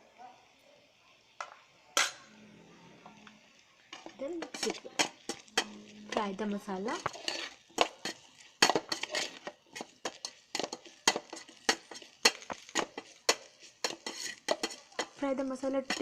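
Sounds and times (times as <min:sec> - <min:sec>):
food frying: 0:00.0 - 0:16.0
spoon scraping metal pot: 0:02.9 - 0:16.0.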